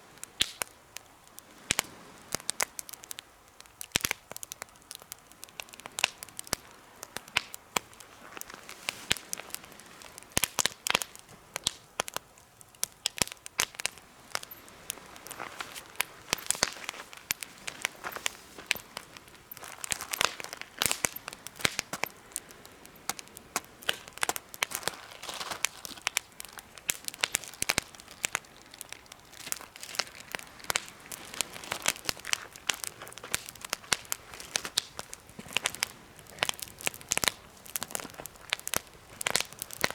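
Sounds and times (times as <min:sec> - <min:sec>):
campfire crackling and popping: 0:00.0 - 0:39.9
soft hiss of fire: 0:00.0 - 0:39.9.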